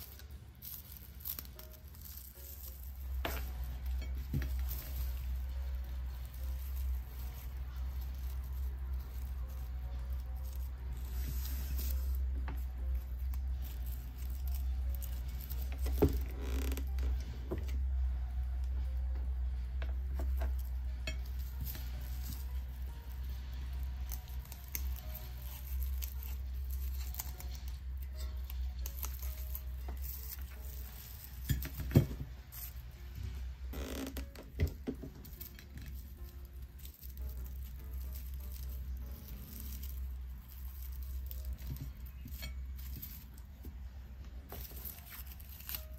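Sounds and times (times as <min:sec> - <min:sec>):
dry flowers rustling and crackling: 0:00.0 - 0:45.9.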